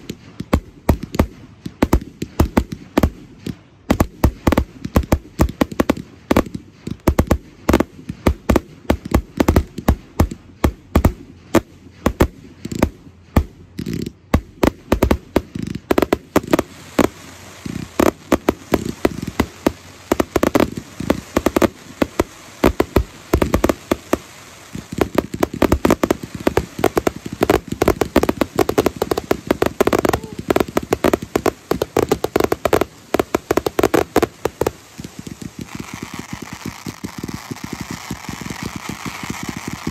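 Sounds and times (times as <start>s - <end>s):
fireworks bursts and bangs: 0.0s - 39.9s.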